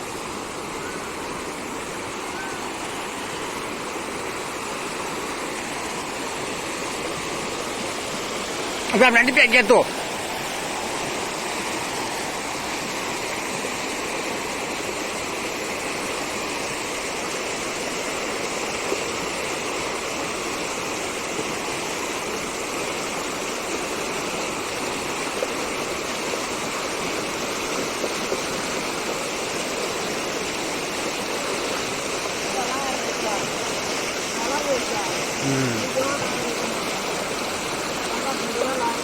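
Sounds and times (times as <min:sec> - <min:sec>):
stream rushing water: 0:00.0 - 0:39.0.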